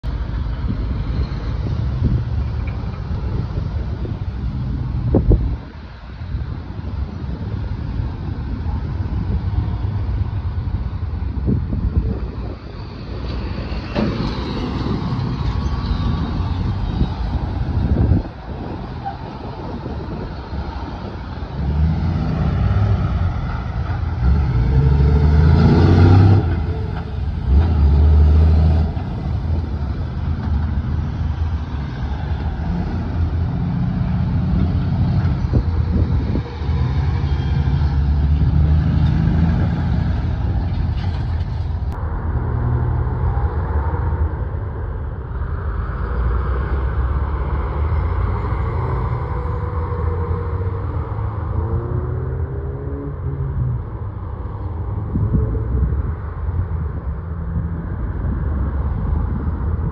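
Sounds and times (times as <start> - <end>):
trucks and cars passing: 0.0 - 59.9.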